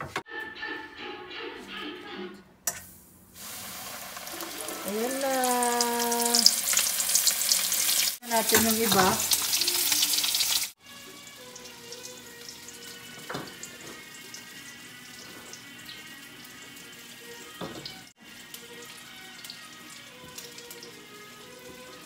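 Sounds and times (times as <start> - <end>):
chicken frying in hot oil: 3.4 - 22.0.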